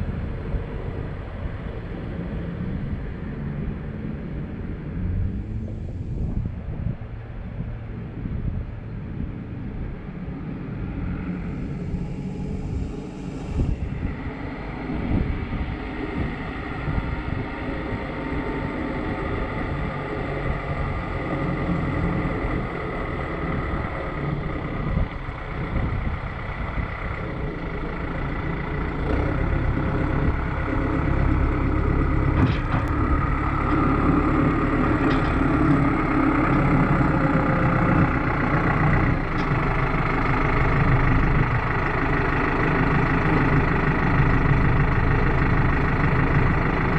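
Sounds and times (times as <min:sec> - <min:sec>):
heavy vehicle engine running: 0:00.0 - 0:46.9.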